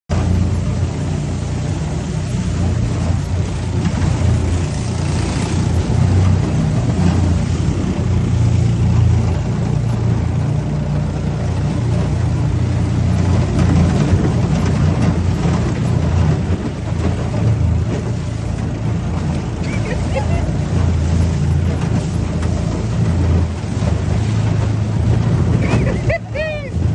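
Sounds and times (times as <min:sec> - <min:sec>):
boat engine droning: 0:00.1 - 0:26.9.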